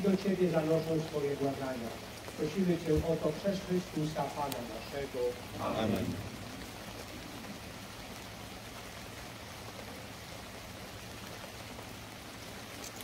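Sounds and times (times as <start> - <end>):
rain on umbrellas: 0.0 - 13.0.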